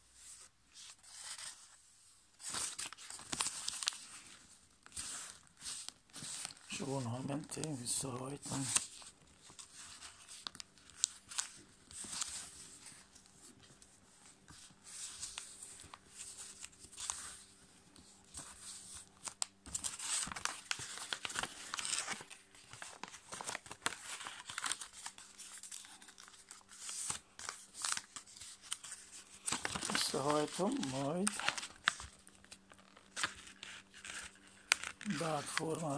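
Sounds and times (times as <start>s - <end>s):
paper rustling and creasing: 0.2s - 35.9s.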